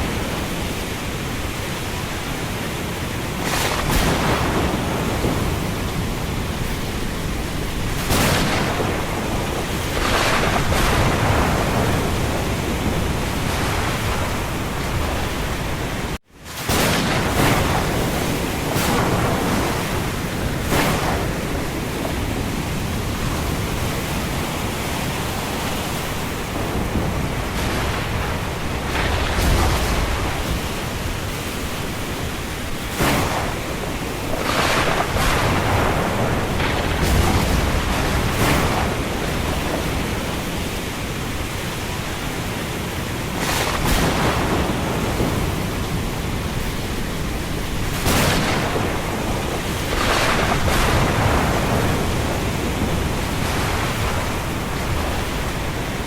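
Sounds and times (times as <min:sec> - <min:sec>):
low rumble of thunder: 0:00.0 - 0:42.2, 0:43.2 - 0:56.0
strong wind rushing in gusts: 0:00.0 - 0:56.0.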